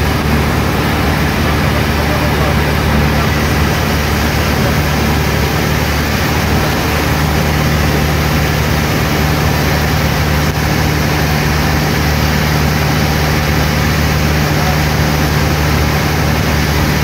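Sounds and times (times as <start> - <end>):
propeller plane engine inside cockpit: 0.0 - 17.0
wind and airframe noise: 0.0 - 17.0.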